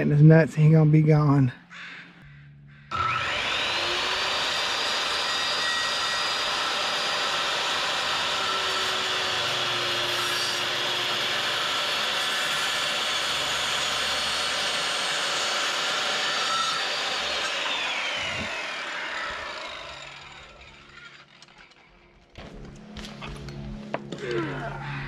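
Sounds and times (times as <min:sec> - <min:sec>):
circular saw cutting wood: 0:02.8 - 0:23.0.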